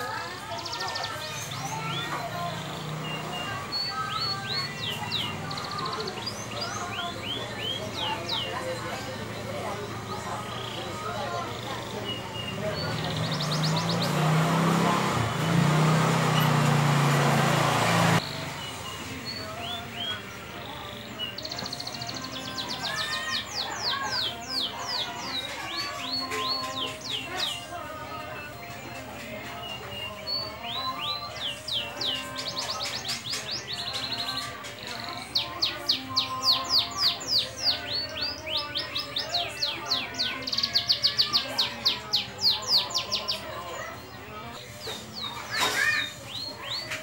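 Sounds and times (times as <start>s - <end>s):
canary chirping: 0.0s - 47.0s.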